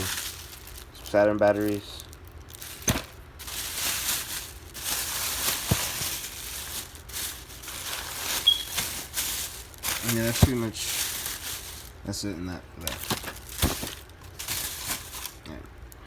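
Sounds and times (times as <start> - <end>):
packaging crinkling and rustling: 0.0 - 15.6.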